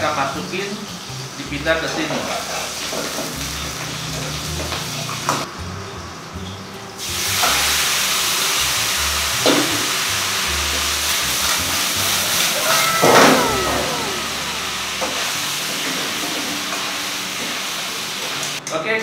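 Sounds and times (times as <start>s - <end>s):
food sizzling in hot oil: 0.0s - 18.6s.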